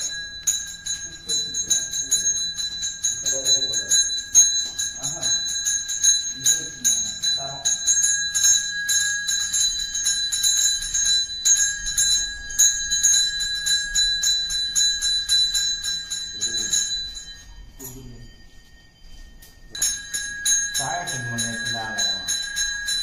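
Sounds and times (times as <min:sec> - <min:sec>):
hand bell ringing: 0:00.0 - 0:23.0.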